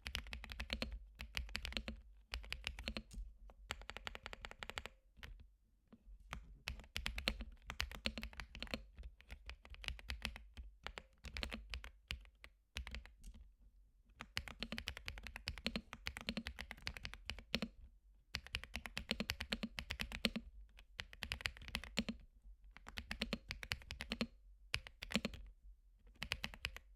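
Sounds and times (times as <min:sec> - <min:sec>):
mechanical keyboard typing: 0:00.0 - 0:03.1, 0:03.7 - 0:05.4, 0:06.3 - 0:13.2, 0:14.2 - 0:17.8, 0:18.4 - 0:20.4, 0:21.0 - 0:22.2, 0:22.8 - 0:25.4, 0:26.1 - 0:26.9.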